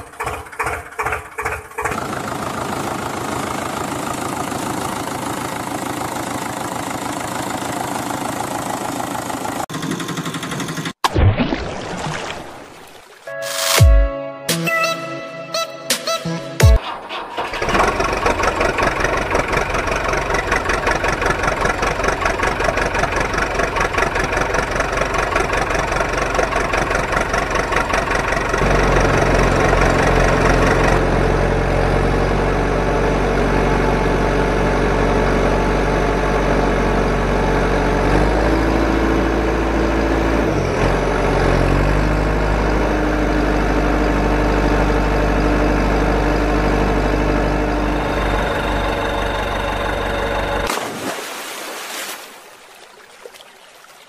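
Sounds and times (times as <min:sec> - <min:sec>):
engine idling: 0:00.0 - 0:11.0, 0:17.1 - 0:50.7.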